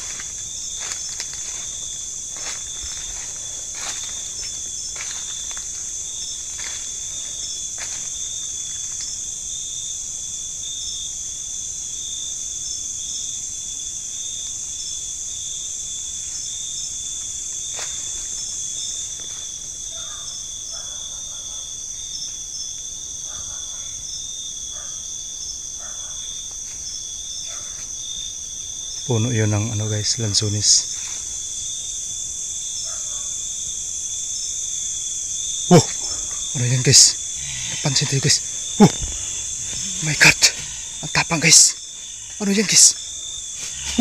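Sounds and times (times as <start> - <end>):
night insects trilling: 0.0 - 44.0.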